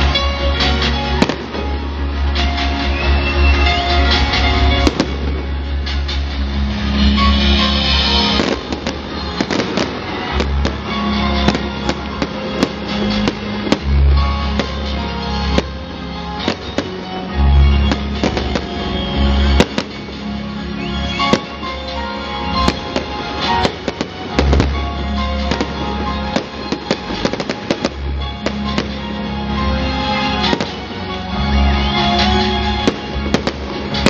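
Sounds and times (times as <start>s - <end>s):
fireworks bangs and crackling: 0.0s - 34.0s
music with bass line: 0.0s - 34.0s.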